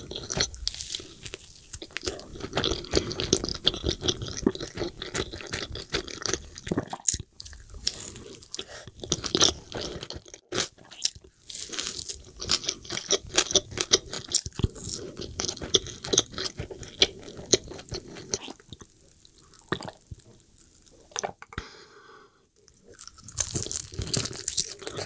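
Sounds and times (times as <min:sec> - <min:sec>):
chewing crunchy fried food: 0:00.0 - 0:21.4, 0:22.6 - 0:25.0.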